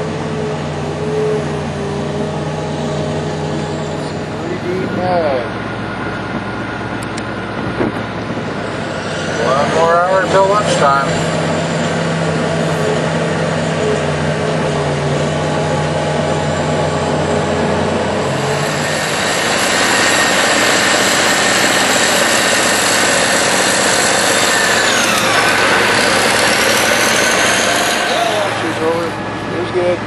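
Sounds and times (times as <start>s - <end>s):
excavator diesel engine drone: 0.0s - 30.0s
hydraulic whine: 0.0s - 30.0s.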